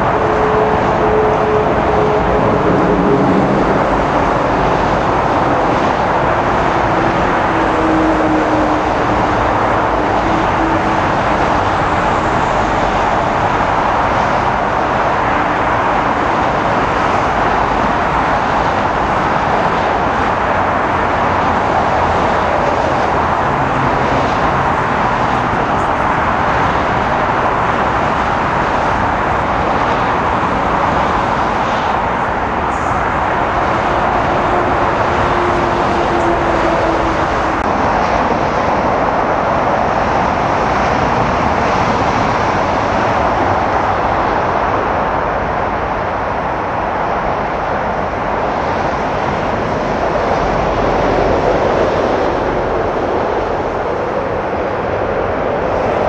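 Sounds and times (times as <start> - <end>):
jet airliner engine roar: 0.0 - 56.0.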